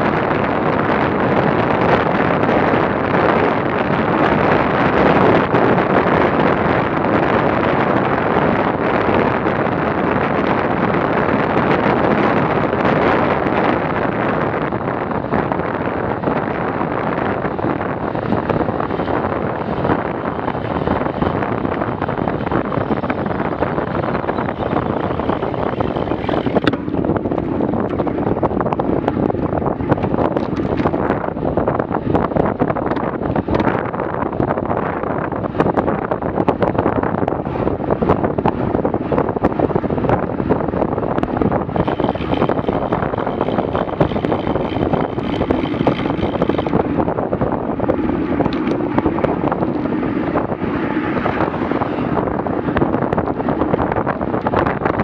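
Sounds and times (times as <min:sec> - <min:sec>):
bicycle road noise: 0:00.0 - 0:55.0
wind buffeting microphone: 0:00.0 - 0:55.0.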